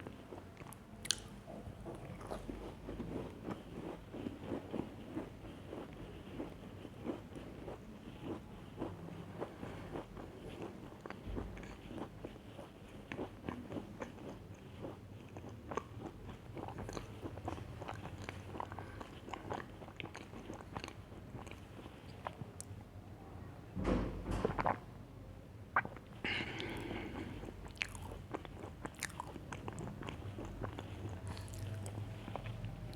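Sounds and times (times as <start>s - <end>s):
person chewing crunchy cookies: 0.0s - 22.7s, 25.8s - 32.9s.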